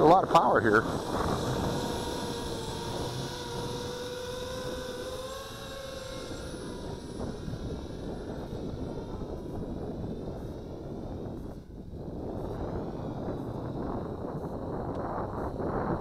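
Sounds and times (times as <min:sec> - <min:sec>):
quadcopter motors whining: 0:00.0 - 0:16.0
wind rumbling on microphone: 0:00.0 - 0:16.0.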